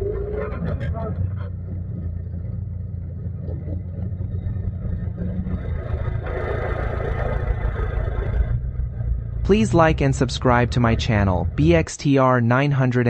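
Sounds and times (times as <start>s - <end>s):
buggy engine running at low revs: 0.0s - 13.0s.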